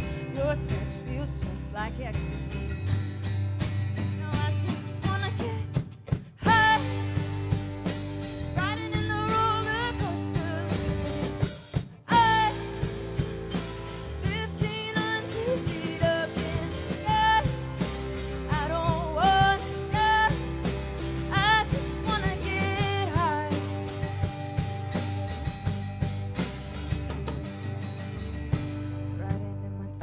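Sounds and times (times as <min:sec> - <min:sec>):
rock band playing: 0:00.0 - 0:29.8
lead guitar with bent notes: 0:00.0 - 0:30.0.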